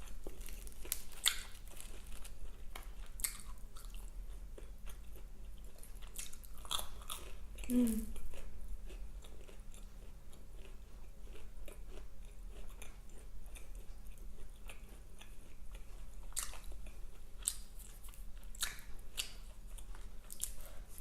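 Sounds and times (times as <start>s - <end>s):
chewing with wet mouth clicks: 0.4s - 21.0s.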